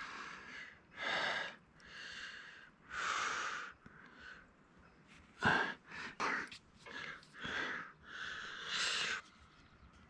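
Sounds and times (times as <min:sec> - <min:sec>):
man breathing hard: 0:00.0 - 0:04.5, 0:05.4 - 0:09.2.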